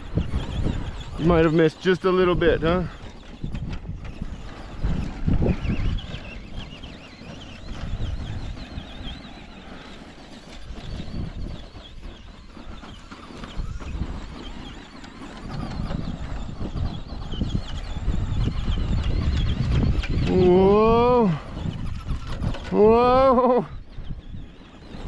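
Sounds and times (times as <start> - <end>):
rc truck electric motor whine: 0.0 - 25.0
wind gusting on microphone: 0.0 - 25.0.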